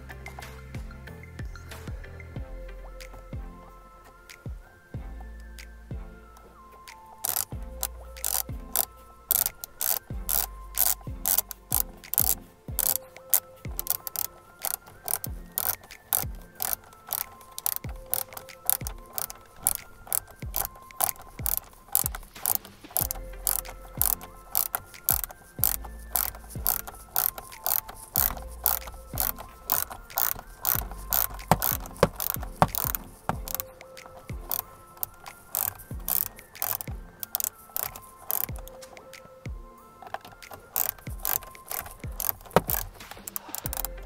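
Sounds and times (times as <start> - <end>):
hand ratchet clicking: 6.9 - 39.2, 40.0 - 44.0.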